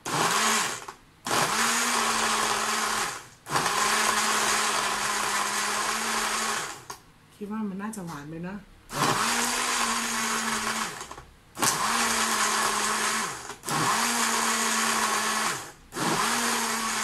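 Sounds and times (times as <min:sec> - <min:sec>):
blender motor humming: 0:00.0 - 0:07.0, 0:08.9 - 0:17.0.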